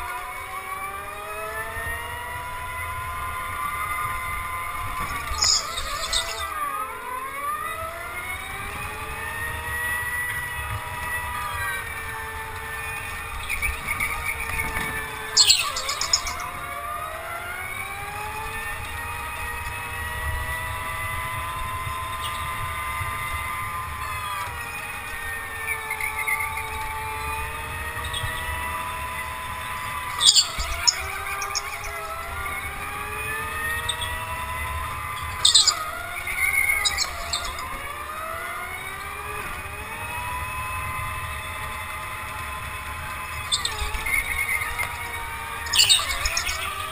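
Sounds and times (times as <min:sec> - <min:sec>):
go-kart motor whining: 0:00.0 - 0:46.9.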